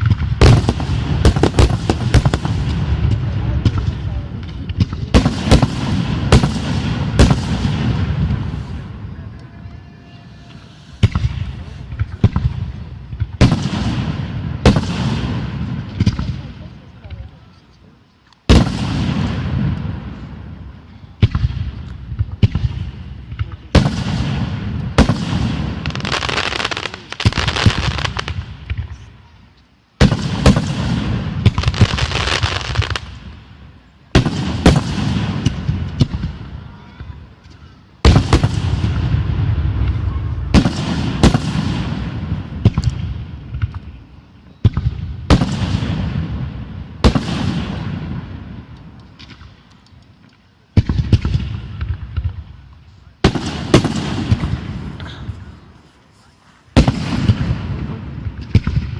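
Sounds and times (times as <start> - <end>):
fireworks bangs: 0.0 - 17.4, 18.4 - 29.3, 30.0 - 49.7, 50.7 - 58.9
fireworks crackling: 0.0 - 58.9.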